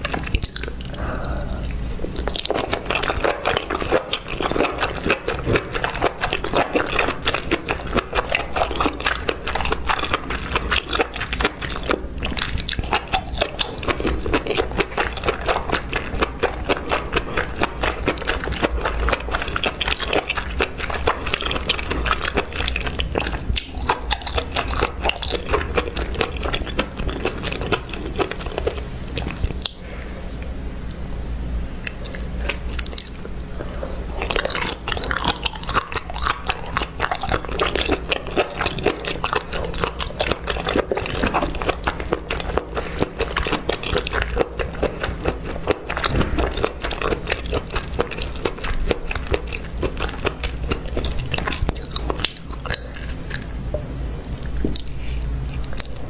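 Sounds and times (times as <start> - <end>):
wet chewing and smacking: 0.0 - 31.0, 31.7 - 56.0.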